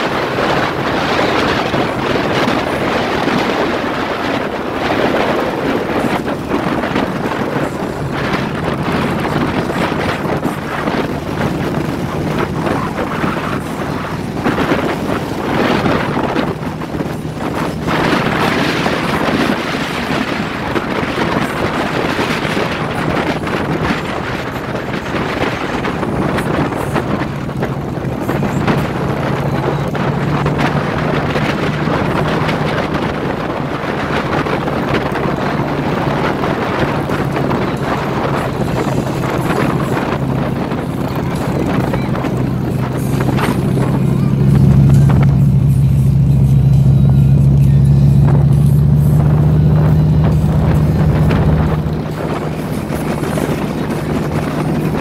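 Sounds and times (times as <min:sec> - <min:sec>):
motorcycle engines humming: 0:00.0 - 0:55.0
wind rushing over microphone: 0:00.0 - 0:55.0.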